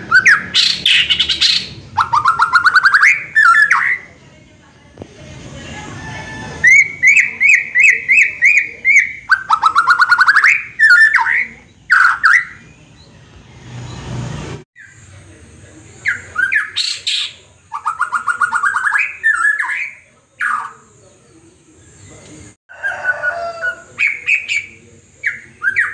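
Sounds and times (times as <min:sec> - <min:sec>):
bird singing varied phrases: 0:00.0 - 0:04.5, 0:06.5 - 0:14.1, 0:15.9 - 0:22.6, 0:23.6 - 0:25.9.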